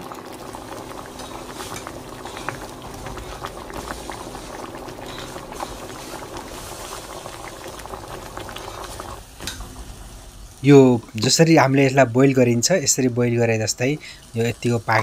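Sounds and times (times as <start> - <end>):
water boiling and bubbling: 0.0 - 15.0.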